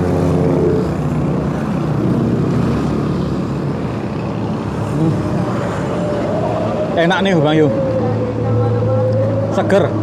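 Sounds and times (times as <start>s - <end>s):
roadside traffic noise: 0.0s - 10.0s.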